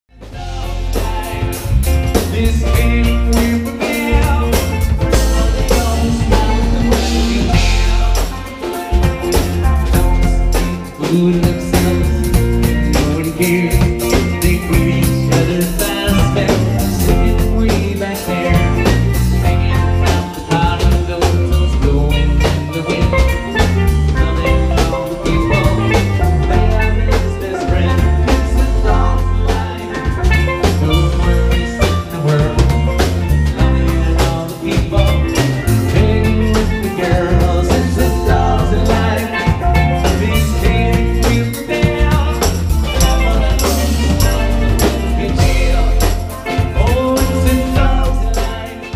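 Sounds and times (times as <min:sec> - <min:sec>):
bass: 0:00.0 - 0:48.9
drum kit: 0:00.1 - 0:48.9
electric guitar: 0:00.1 - 0:48.9
steel drums: 0:00.2 - 0:48.9.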